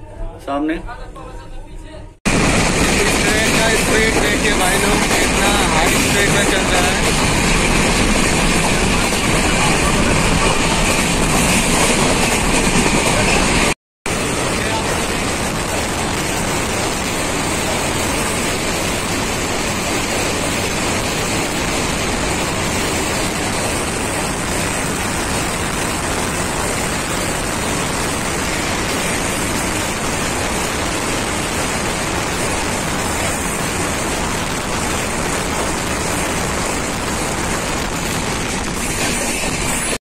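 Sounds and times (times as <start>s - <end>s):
train rushing at speed: 2.2s - 40.0s.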